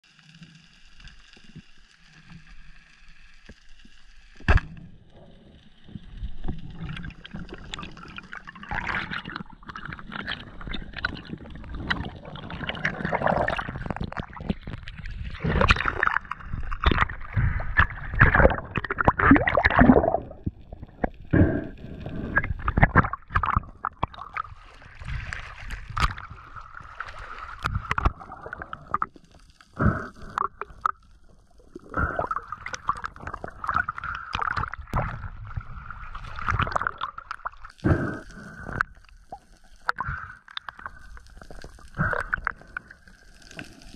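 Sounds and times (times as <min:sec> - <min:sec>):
water rushing and bubbling: 0:04.3 - 0:43.9.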